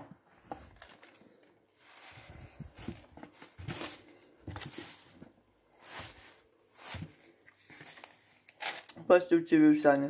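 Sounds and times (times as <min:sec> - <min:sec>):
cardboard box and packaging rustling: 0:00.3 - 0:08.9.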